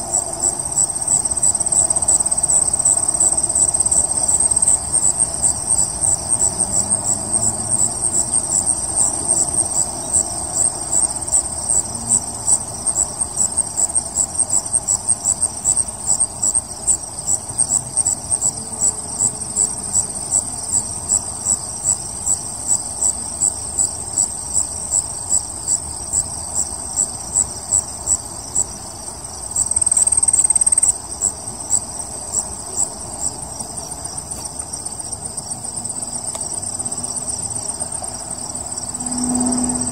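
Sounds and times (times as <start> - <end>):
insect trilling: 0.0 - 39.9
insects chirping: 0.0 - 39.9.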